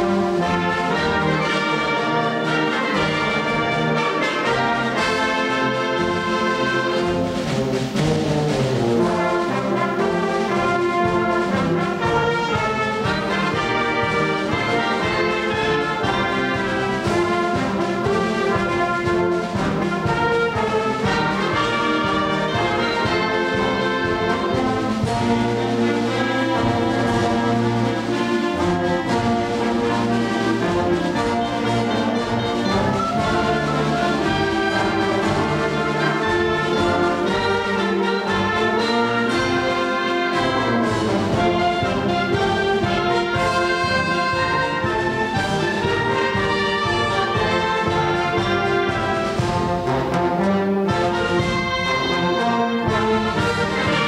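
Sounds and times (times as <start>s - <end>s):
concert band playing a march: 0.0s - 54.0s.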